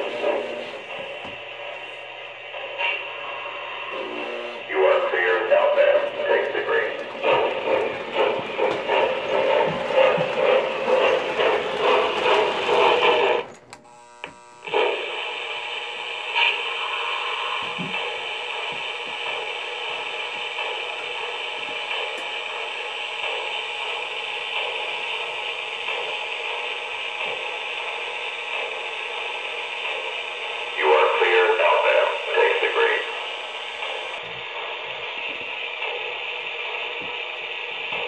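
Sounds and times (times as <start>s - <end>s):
model train wheels and motors humming: 0.0s - 38.0s.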